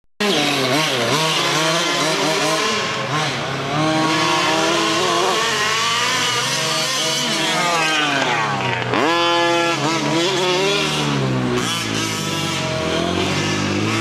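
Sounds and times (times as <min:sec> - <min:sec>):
small two-stroke engine revving: 0:00.2 - 0:14.0.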